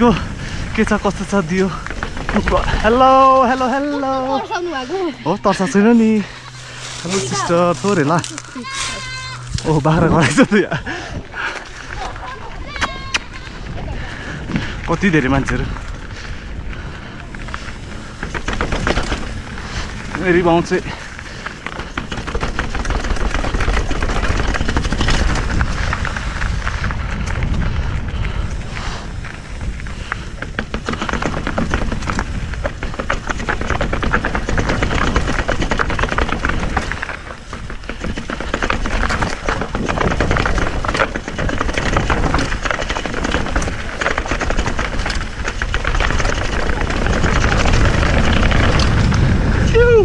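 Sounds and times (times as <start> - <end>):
bike rattling over rocks: 0.0 - 49.7
wind buffeting microphone: 0.0 - 50.0.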